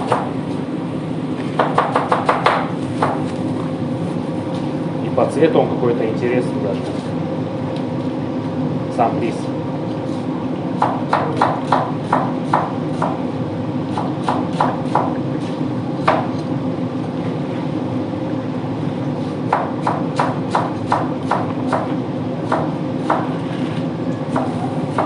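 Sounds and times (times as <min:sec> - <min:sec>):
kitchen equipment hum: 0:00.0 - 0:25.0.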